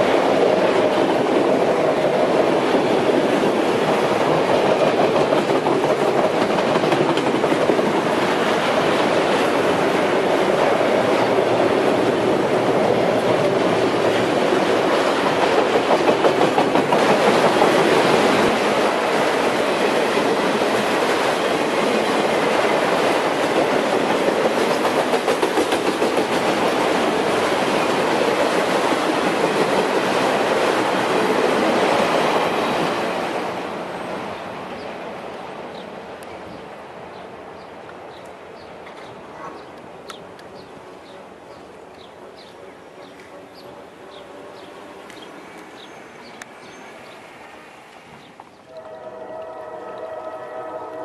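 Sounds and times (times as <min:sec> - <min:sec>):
freight train wheels on rails: 0:00.0 - 0:51.0.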